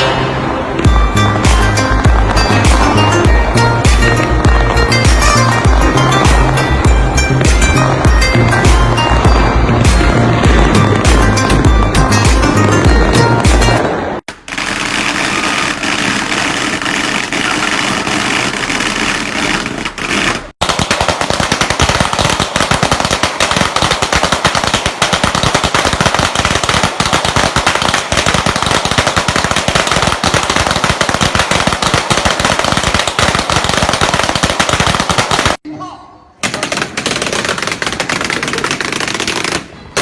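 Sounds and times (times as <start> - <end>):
fireworks crackling: 0.0 - 35.6, 36.4 - 40.0.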